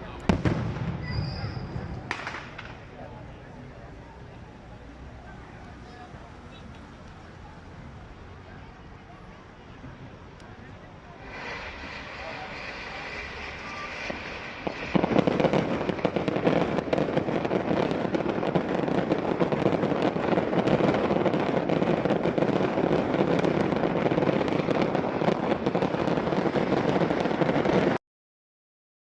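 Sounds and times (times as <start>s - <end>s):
firework bangs and crackles: 0.0s - 28.0s.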